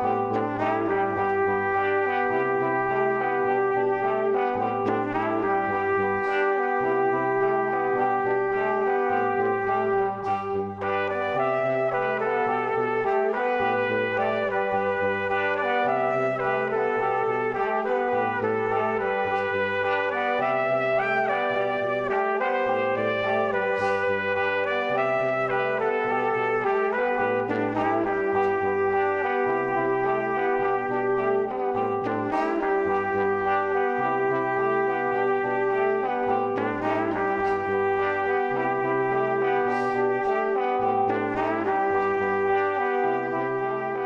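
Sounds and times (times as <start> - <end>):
brass-like melody: 0.0 - 44.0.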